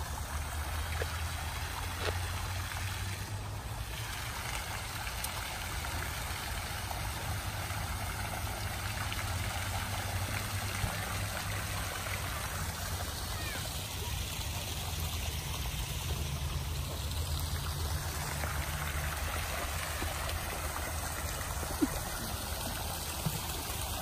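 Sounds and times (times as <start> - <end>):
running water trickling: 0.0 - 24.0.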